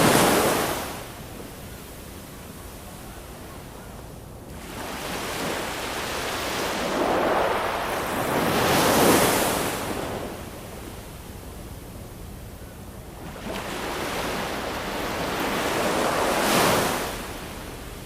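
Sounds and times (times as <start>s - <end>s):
ocean waves breaking: 0.0s - 10.8s, 13.1s - 18.0s.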